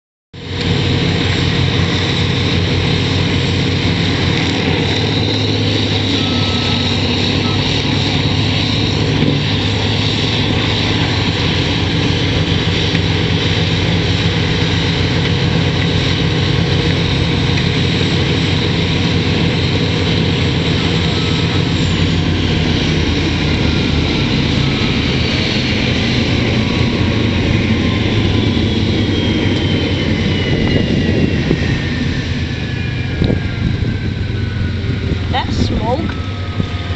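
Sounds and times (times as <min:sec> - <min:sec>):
faint falling whines: 0:00.5 - 0:36.9.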